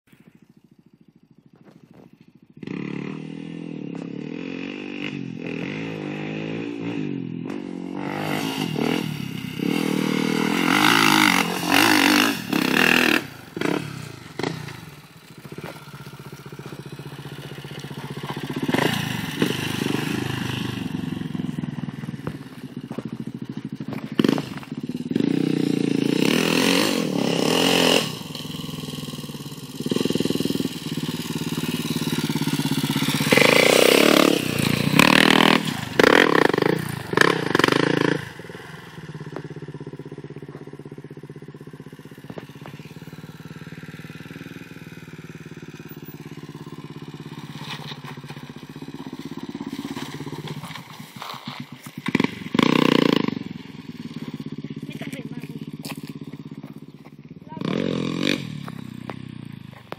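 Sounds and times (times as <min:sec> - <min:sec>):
dirt bike engine revving: 0:02.5 - 0:59.9.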